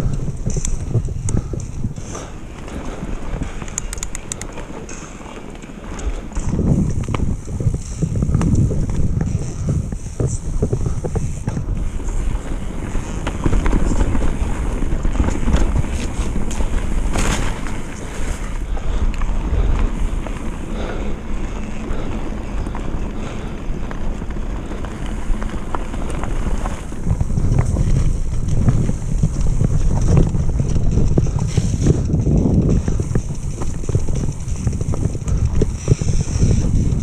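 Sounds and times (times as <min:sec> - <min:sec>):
bike knocks and rattles: 0:00.0 - 0:37.0
tyres rumbling on trail: 0:00.0 - 0:37.0
wind buffeting microphone: 0:00.0 - 0:37.0.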